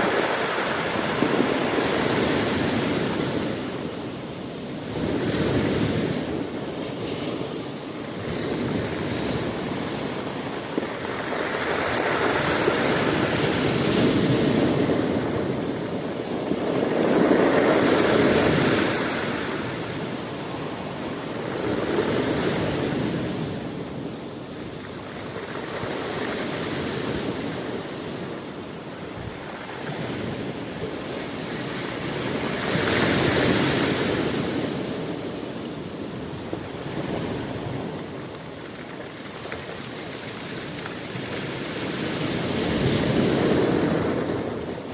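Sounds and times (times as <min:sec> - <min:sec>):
sea waves breaking: 0:00.0 - 0:44.9.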